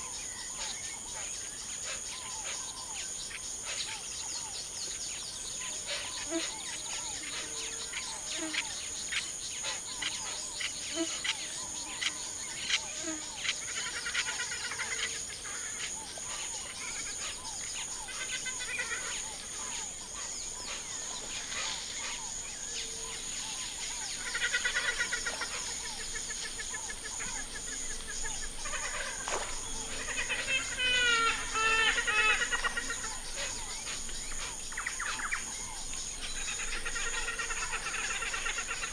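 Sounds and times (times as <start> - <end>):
birds singing and calling: 0.0 - 38.9
rapid trilling birdsong: 0.0 - 38.9
high-pitched insect chirping: 5.9 - 38.9.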